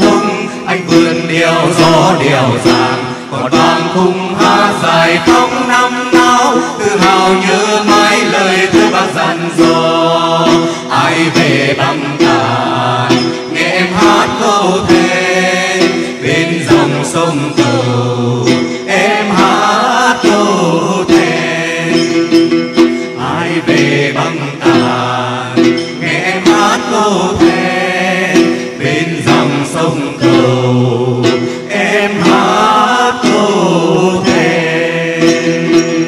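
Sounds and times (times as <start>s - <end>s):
plucked lute strings: 0.0s - 36.0s
voices singing ornamented melody: 0.0s - 36.0s.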